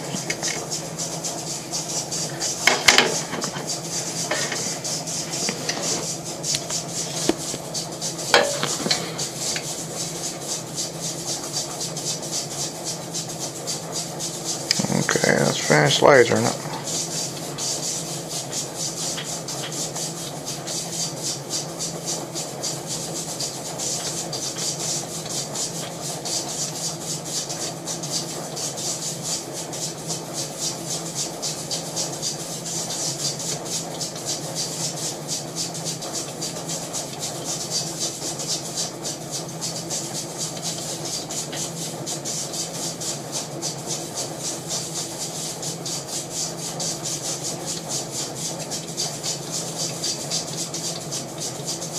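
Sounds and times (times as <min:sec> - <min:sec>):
machine pulsing hum and hiss: 0:00.0 - 0:51.9.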